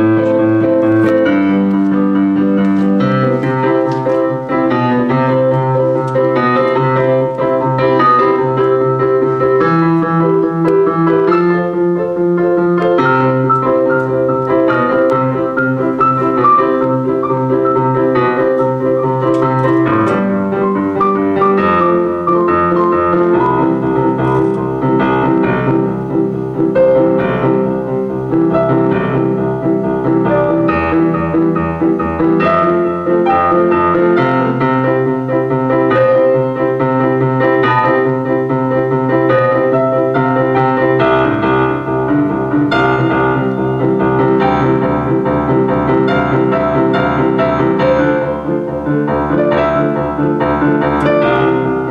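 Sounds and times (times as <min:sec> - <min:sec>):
piano notes and chords: 0:00.0 - 0:51.9.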